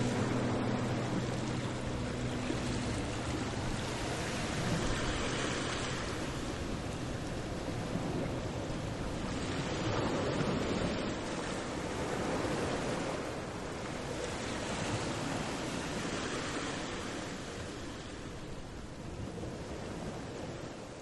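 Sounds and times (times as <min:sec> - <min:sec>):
steady rushing outdoor noise: 0:00.0 - 0:20.2.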